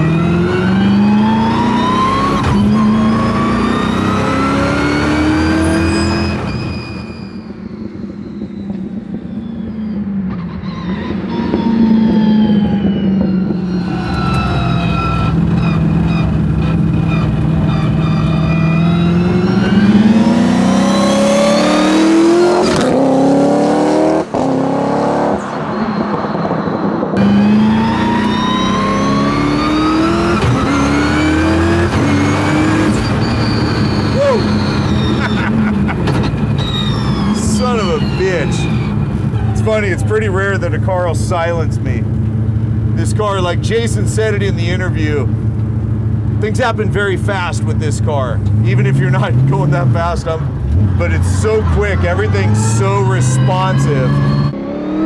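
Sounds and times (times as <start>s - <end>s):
car engine revving and upshifting: 0.0s - 55.0s.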